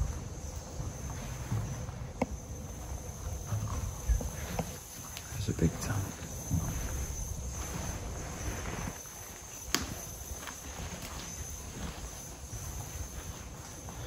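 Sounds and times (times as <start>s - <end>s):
footsteps on concrete floor: 0.0s - 14.0s.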